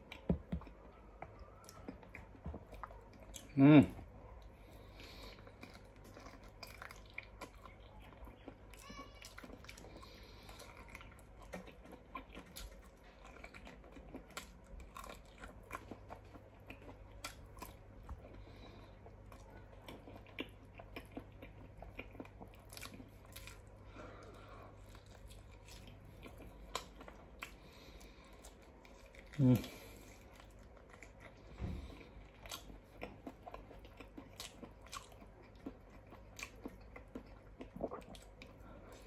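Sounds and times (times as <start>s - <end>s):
person chewing seafood: 0.0s - 39.0s.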